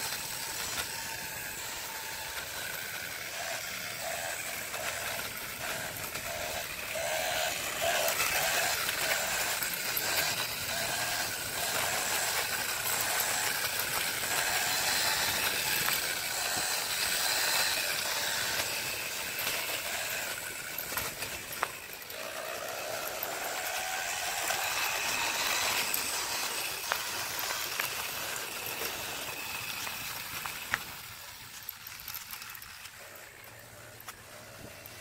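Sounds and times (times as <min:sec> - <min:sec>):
electric scooter motor whining: 0:00.0 - 0:35.0
small wheels rumbling on concrete: 0:00.0 - 0:35.0.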